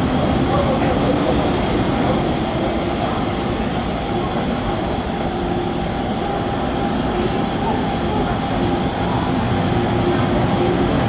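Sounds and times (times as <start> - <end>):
train rumbling and humming: 0.0 - 11.0.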